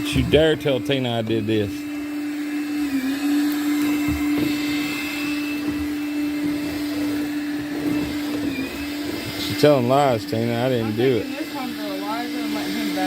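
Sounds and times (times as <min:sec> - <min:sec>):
cordless vacuum motor whine: 0:00.0 - 0:13.0.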